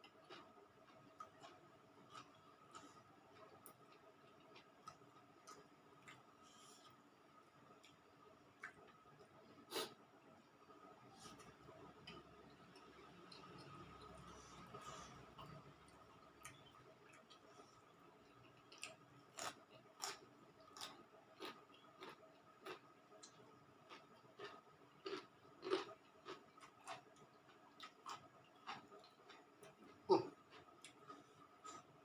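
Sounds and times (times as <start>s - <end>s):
person chewing food: 0.0s - 7.0s, 11.2s - 32.0s
faint steady hum: 0.0s - 32.0s.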